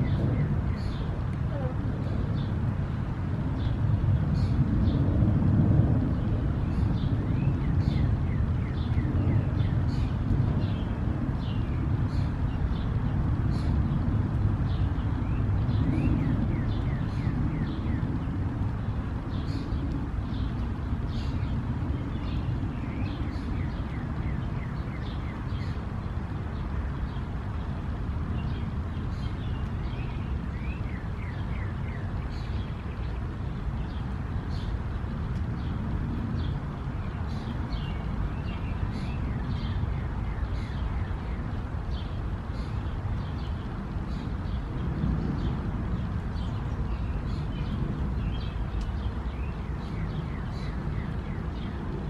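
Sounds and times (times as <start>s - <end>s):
small birds chirping: 0.0s - 2.7s, 6.0s - 52.0s.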